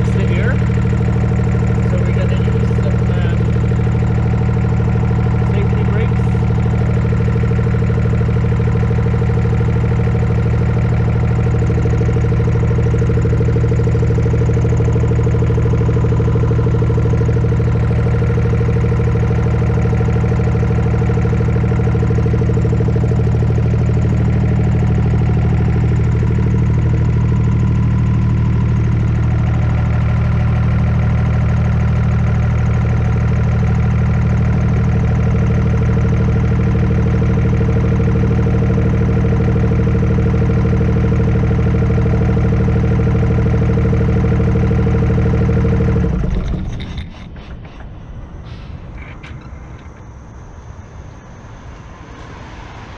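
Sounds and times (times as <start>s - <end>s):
air brake compressor running: 0.0s - 52.9s
truck diesel engine idling: 0.0s - 52.9s.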